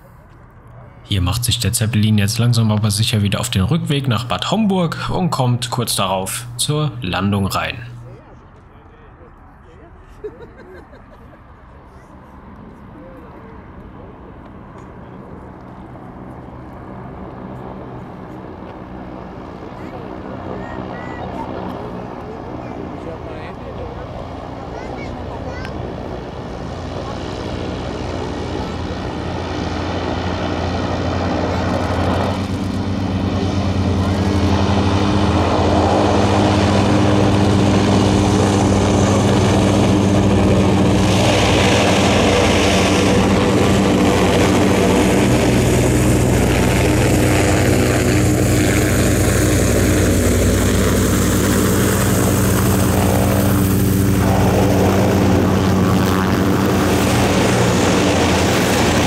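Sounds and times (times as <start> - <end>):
airship propeller engines droning: 0.0 - 59.0.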